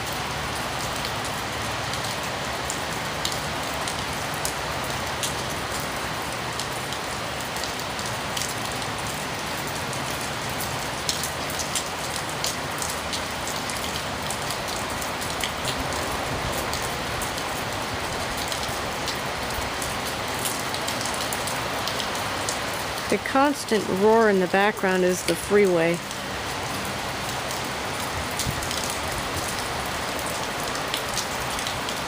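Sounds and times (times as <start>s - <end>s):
freeway traffic roar: 0.0s - 32.0s
heavy rain falling: 0.0s - 32.0s.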